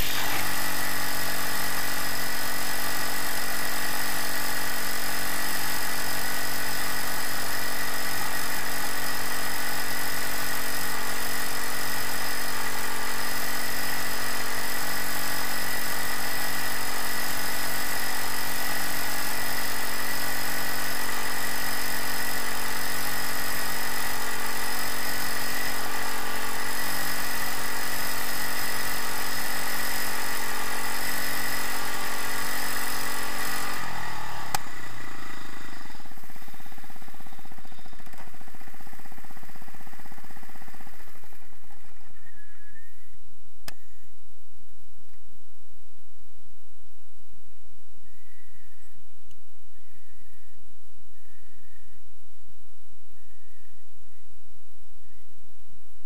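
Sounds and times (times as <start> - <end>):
small engine droning: 0.0 - 44.2, 48.0 - 52.3, 53.1 - 54.4.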